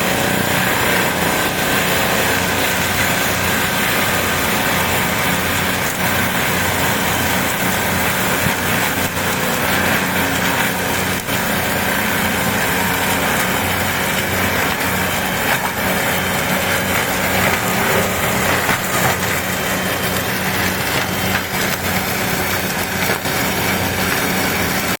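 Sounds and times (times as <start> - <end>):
mulcher grinding wood: 0.0 - 25.0
tractor engine under load: 0.0 - 25.0.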